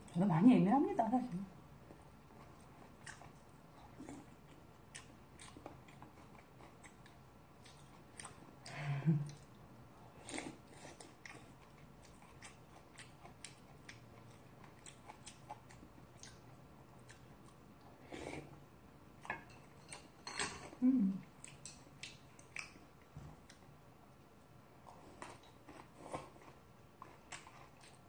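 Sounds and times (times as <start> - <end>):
person chewing food: 1.8 - 24.2, 24.8 - 28.0.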